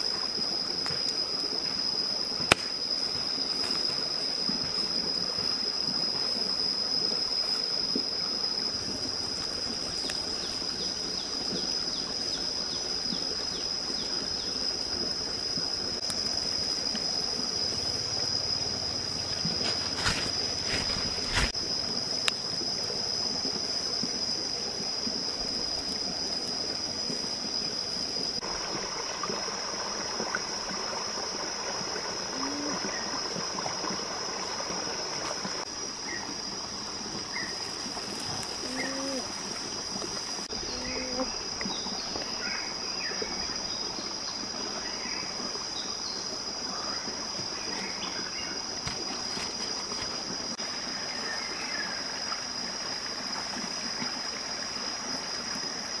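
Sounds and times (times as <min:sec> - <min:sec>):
forest stream flowing: 0:00.0 - 0:56.0.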